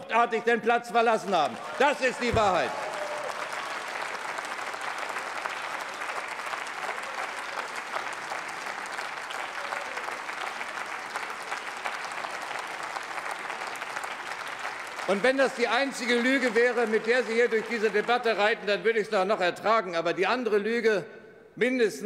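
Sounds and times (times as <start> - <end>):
crowd applauding: 1.2 - 19.1.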